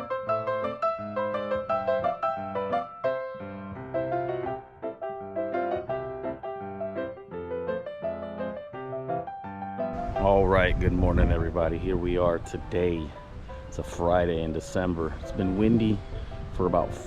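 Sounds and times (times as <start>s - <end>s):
piano tune with quick notes: 0.0s - 17.0s.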